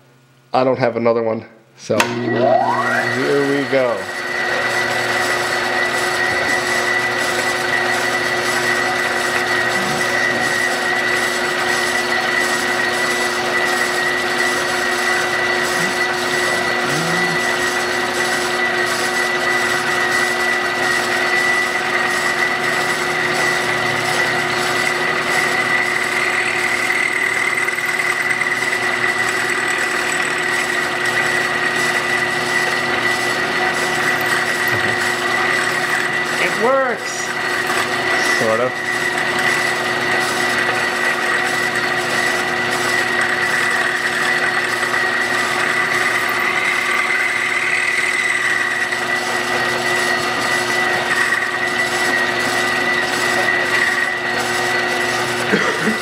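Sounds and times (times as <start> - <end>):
end mill cutting metal: 1.9 - 56.0
milling machine spindle whine: 1.9 - 56.0.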